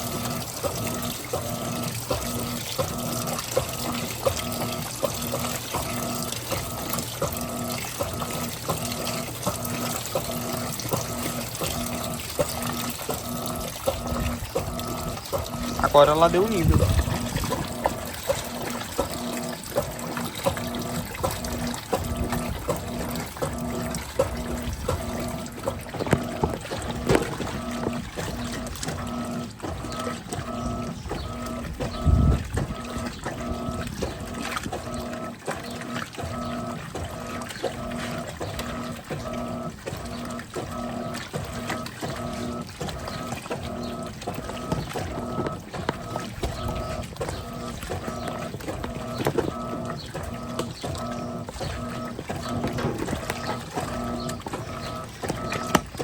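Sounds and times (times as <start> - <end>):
washing machine motor hum: 0.0 - 56.0
water sloshing: 0.0 - 56.0.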